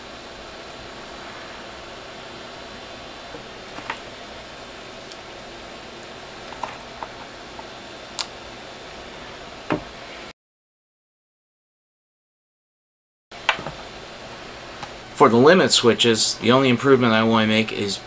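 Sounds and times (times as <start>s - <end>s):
room hiss: 0.0s - 10.3s, 13.4s - 18.0s.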